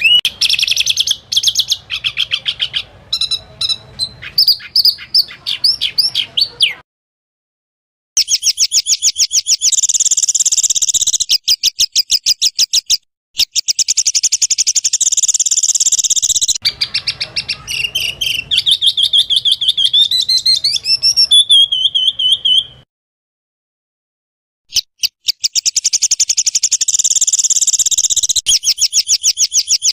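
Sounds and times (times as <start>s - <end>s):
bird whistled notes: 0.0s - 5.2s, 8.2s - 22.8s, 24.7s - 29.9s
songbird chirping trills: 0.0s - 6.8s, 8.2s - 22.9s, 24.7s - 29.9s.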